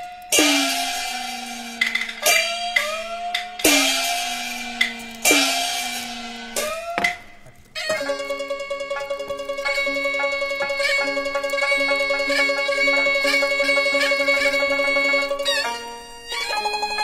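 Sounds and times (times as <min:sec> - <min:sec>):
cymbal clashes: 0:00.0 - 0:17.0
gongs struck: 0:00.3 - 0:16.2.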